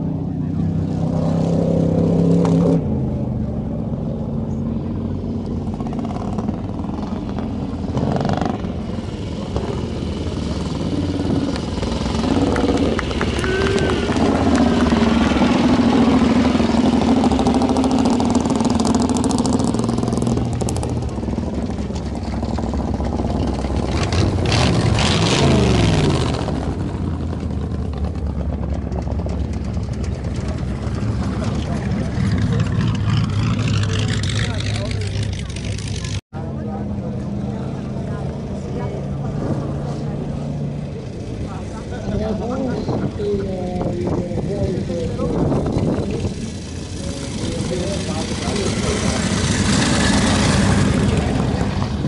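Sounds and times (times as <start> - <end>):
motorcycle engines passing by: 0.0 - 52.0.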